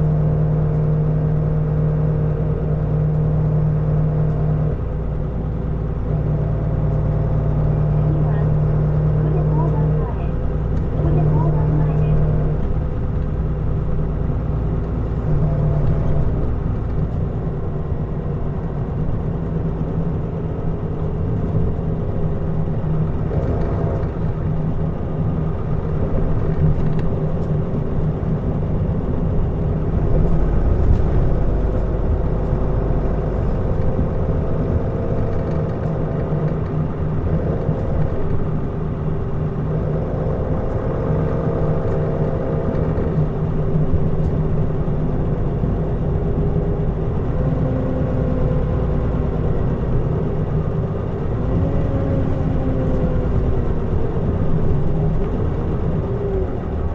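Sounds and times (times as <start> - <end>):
bus diesel engine running: 0.0 - 56.9
road noise: 0.0 - 56.9.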